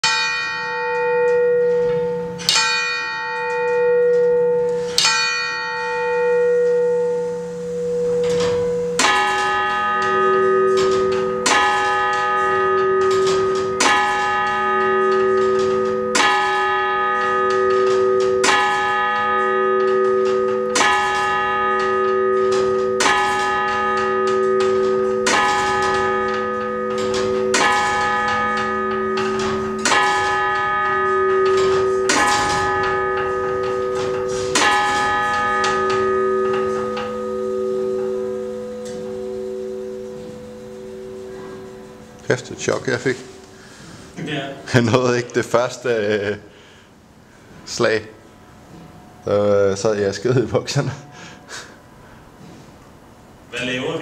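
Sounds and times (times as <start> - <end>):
church bells striking: 0.0 - 54.0.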